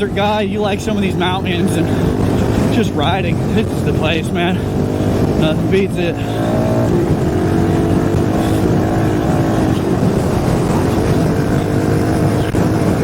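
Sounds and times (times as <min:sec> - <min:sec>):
dirt bike engine running: 0:00.0 - 0:13.0
wind buffeting microphone: 0:00.0 - 0:13.0.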